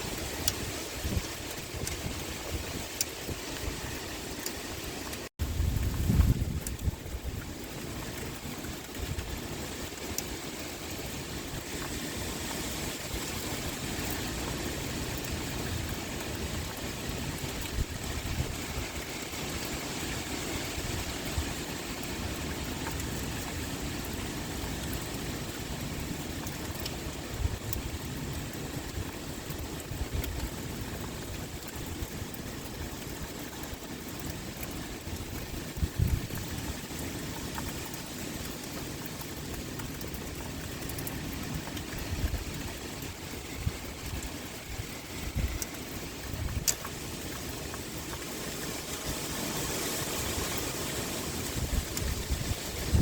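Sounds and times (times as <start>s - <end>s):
low gusts of wind: 0.0s - 53.0s
pouring rain: 0.0s - 53.0s.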